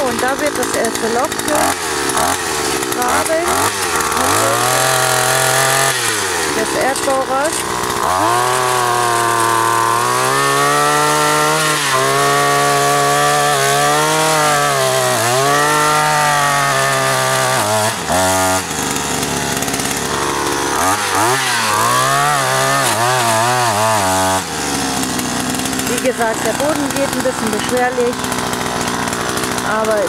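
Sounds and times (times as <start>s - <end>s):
earth auger engine boring: 0.0s - 30.0s.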